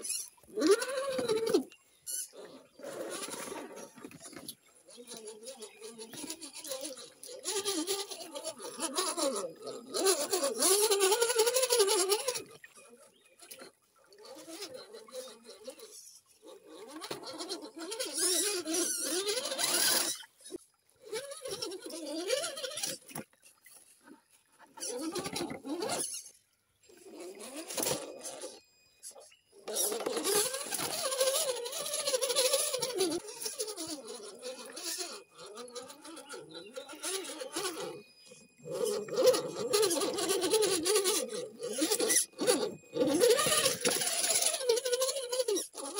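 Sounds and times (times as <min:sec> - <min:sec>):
toy car motor whining: 0:00.0 - 0:23.3, 0:23.9 - 0:45.9.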